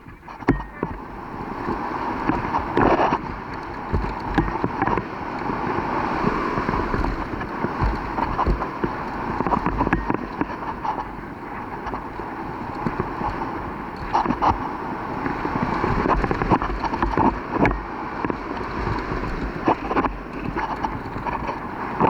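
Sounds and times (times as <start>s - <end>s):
scattered knocks: 0.0s - 5.2s, 5.8s - 22.0s
wind buffeting microphone: 0.0s - 22.0s.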